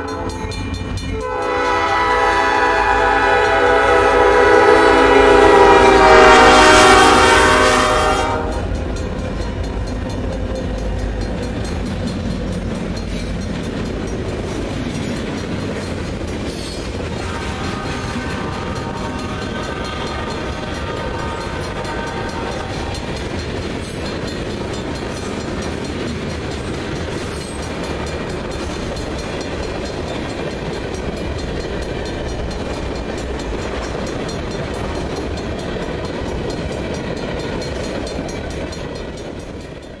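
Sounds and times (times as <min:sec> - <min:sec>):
freight train cars rolling: 0:00.0 - 0:40.0.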